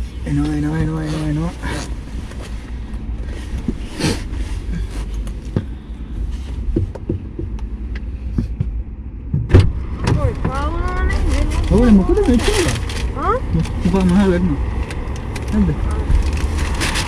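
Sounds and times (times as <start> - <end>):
low rumble in car cabin: 0.0 - 17.0.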